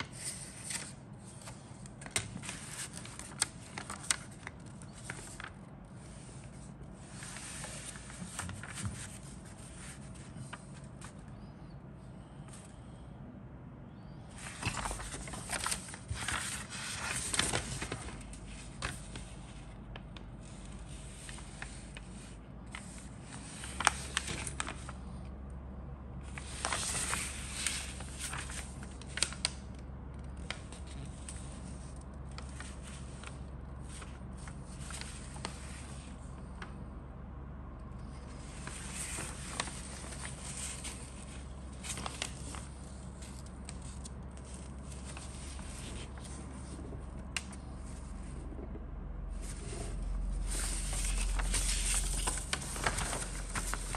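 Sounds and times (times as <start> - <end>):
paper rustling and crinkling: 0.0 - 11.5, 14.3 - 25.3, 26.2 - 36.9, 38.0 - 48.5, 49.3 - 53.9.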